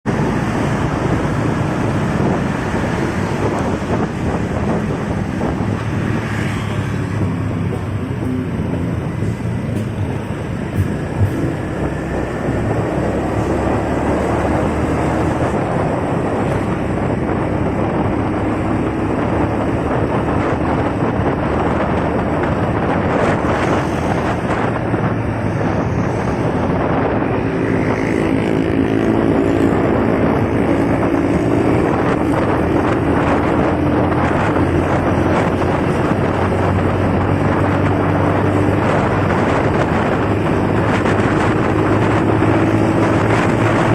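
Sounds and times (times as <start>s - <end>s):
motorcycle engine: 0.0s - 43.9s
traffic engines running: 0.0s - 43.9s
tyre and road noise: 0.0s - 43.9s
wind buffeting microphone: 0.0s - 43.9s.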